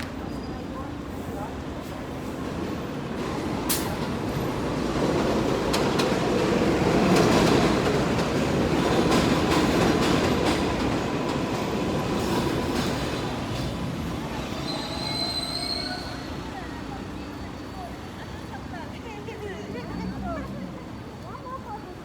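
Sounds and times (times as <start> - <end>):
elevated subway train rumbling: 0.0 - 22.0.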